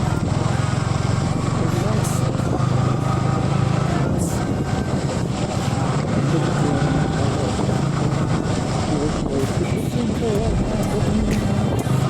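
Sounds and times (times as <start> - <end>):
vehicle driving on road: 0.0 - 12.0.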